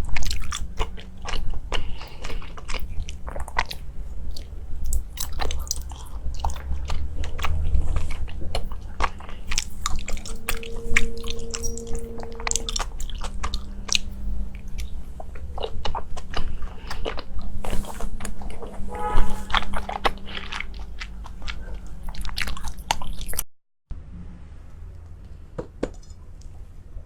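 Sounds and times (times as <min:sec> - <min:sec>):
person chewing crunchy food: 0:00.0 - 0:18.7, 0:19.4 - 0:23.4.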